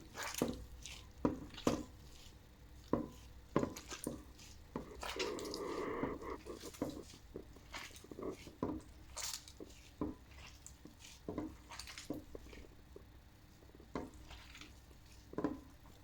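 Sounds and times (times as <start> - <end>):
squishy rubbing: 0.0 - 12.9
hands mashing mixture in bowl: 0.0 - 16.0.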